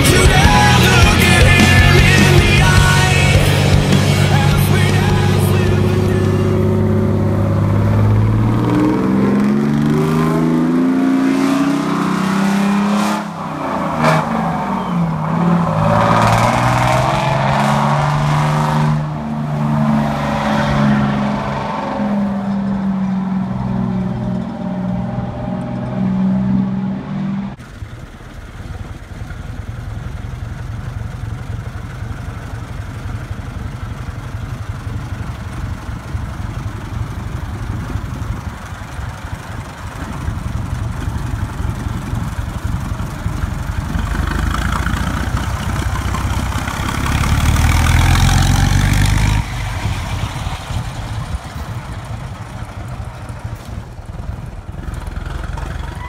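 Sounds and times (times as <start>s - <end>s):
fire engine pulling away: 0.0s - 56.0s
truck engine rumble: 0.0s - 56.0s.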